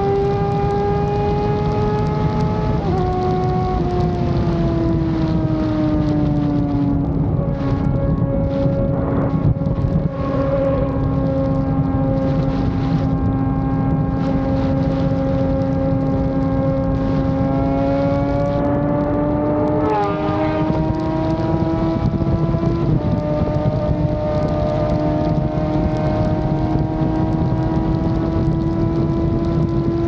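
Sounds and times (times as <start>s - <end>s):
motorcycle engine running: 0.0s - 30.0s
wind rushing over microphone: 0.0s - 30.0s.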